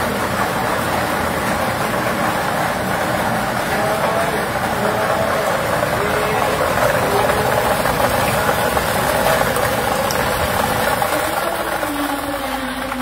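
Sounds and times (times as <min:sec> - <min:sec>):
plastic balls rattling in drum: 0:00.0 - 0:13.0.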